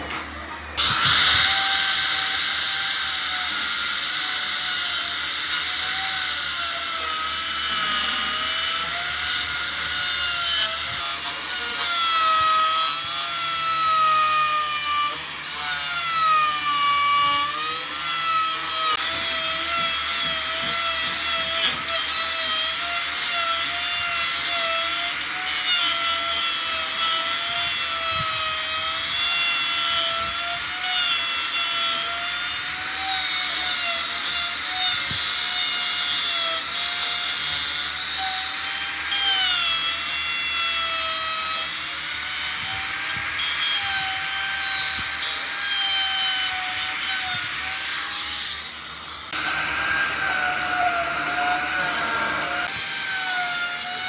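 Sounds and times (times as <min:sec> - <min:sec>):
power tool motor whine: 0:00.0 - 0:54.0
rasping wood cut: 0:00.0 - 0:54.0.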